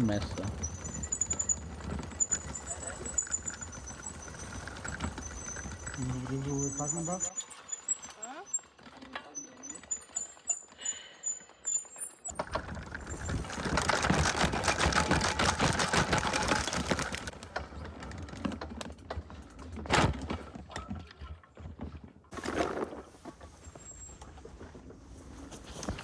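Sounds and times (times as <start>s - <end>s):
bike rattling: 0.0s - 26.0s.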